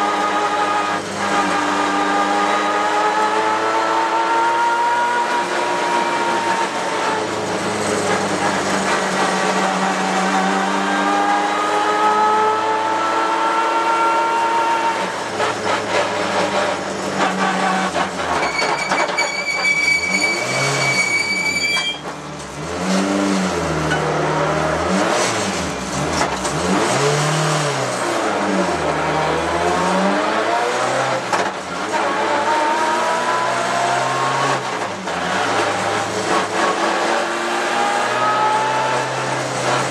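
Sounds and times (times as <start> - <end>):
race car engine at high revs: 0.0 - 18.4, 22.0 - 39.9.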